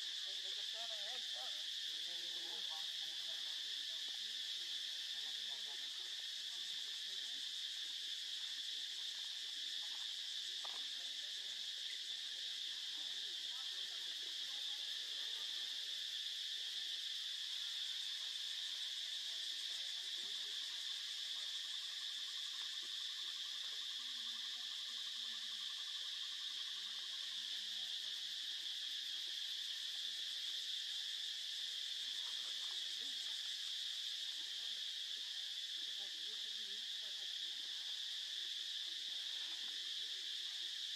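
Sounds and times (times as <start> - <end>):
insect drone: 0.0 - 40.9.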